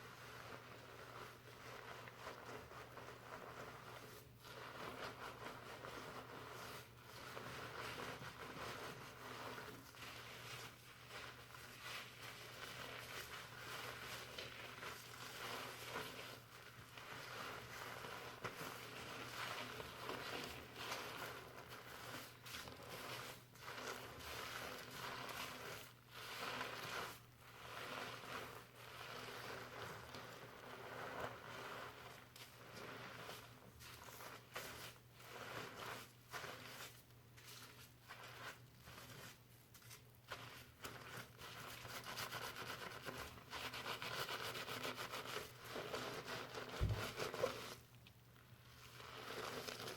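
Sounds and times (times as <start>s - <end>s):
fingers scrubbing lathered scalp: 0.0s - 47.9s, 48.8s - 49.9s.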